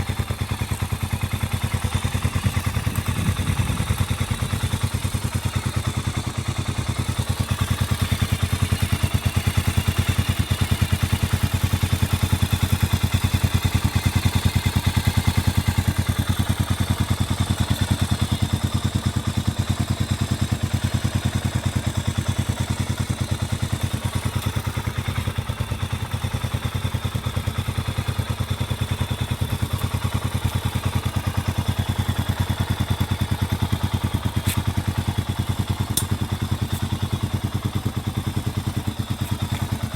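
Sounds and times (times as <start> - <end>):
motorcycle exhaust low pulsing: 0.0 - 39.9.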